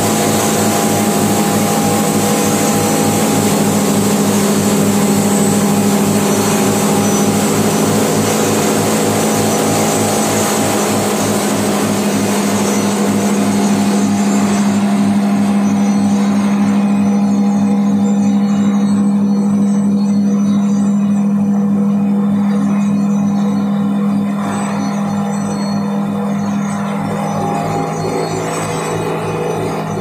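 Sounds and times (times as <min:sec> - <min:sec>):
spice pulverizer machine humming: 0:00.0 - 0:30.0.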